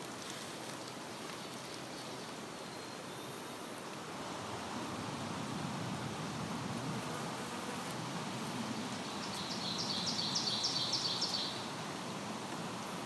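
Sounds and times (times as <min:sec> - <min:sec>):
forest ambience with insects: 0:00.0 - 0:13.0.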